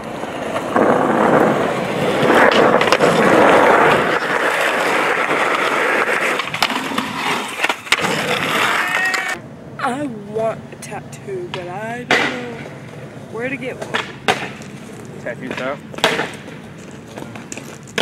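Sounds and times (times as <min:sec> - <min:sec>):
skateboard clacking on ground: 0:00.0 - 0:09.4, 0:11.4 - 0:18.0
skateboard wheels rolling on concrete: 0:00.0 - 0:09.5, 0:11.3 - 0:18.0.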